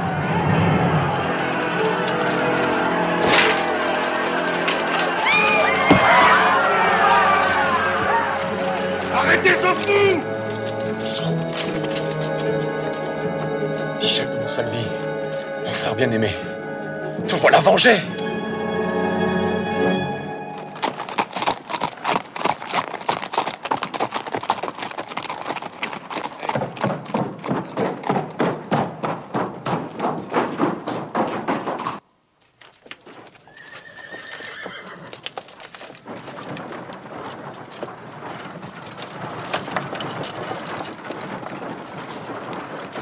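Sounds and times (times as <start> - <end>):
hooves clip-clopping on dirt: 1.2 - 43.0.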